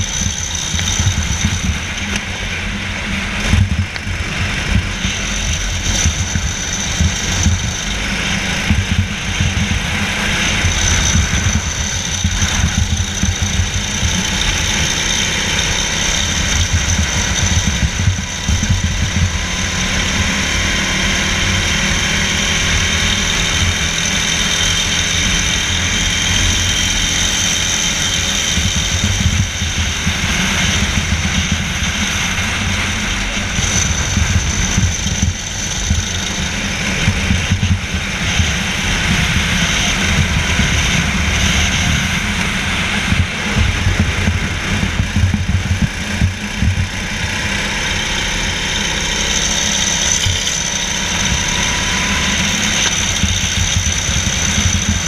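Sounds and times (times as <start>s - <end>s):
racing kart engine running hard: 0.0s - 55.0s.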